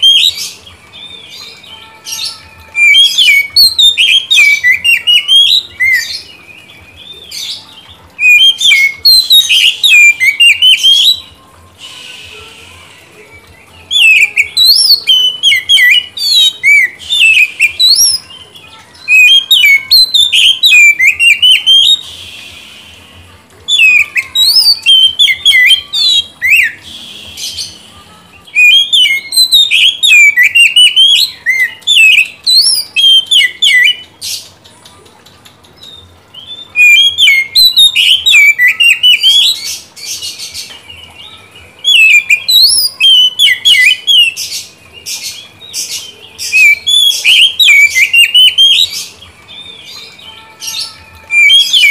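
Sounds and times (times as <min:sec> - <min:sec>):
bird singing chirps and whistles: 0:00.0 - 0:34.5, 0:35.7 - 0:51.9.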